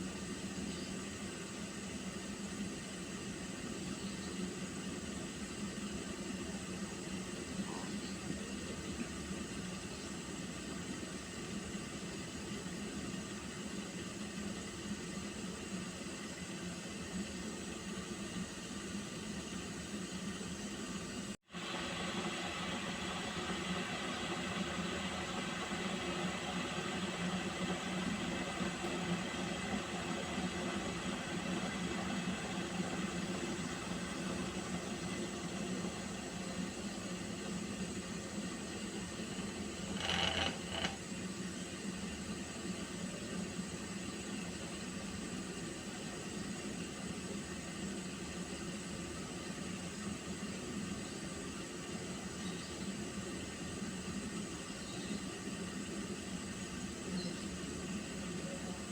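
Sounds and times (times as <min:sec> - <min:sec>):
water heating hiss: 0:00.0 - 0:58.9.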